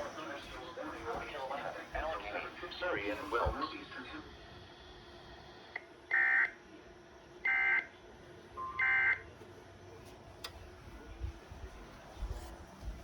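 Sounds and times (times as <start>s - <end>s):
faint radio hiss: 0.0s - 13.0s.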